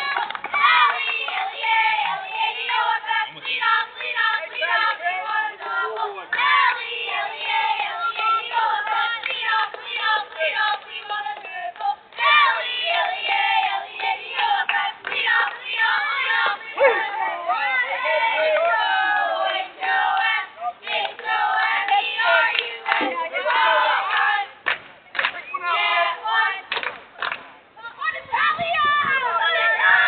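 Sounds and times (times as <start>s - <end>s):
children chanting a team cheer: 0.0s - 10.8s, 11.8s - 24.5s, 27.8s - 30.0s.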